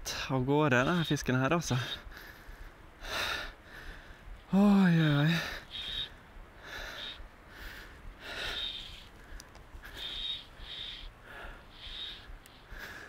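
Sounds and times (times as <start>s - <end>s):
man breathing heavily: 1.8s - 13.0s.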